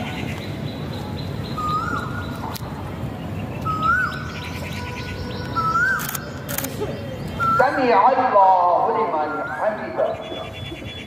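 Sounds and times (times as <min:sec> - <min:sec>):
bird calling: 0:00.0 - 0:02.6, 0:03.2 - 0:11.0
low background noise: 0:00.0 - 0:11.0.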